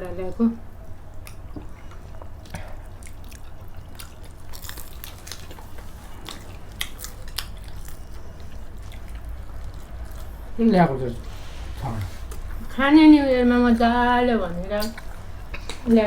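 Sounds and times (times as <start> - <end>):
people chewing crunchy food: 0.8 - 12.8, 14.7 - 16.0.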